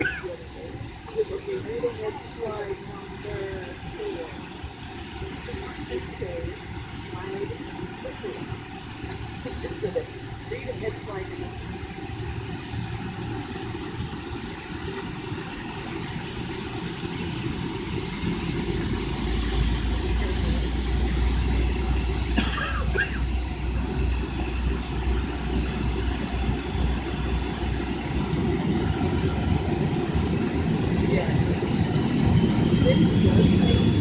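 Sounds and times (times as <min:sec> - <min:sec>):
jet engine cabin rumble: 0:00.0 - 0:34.0.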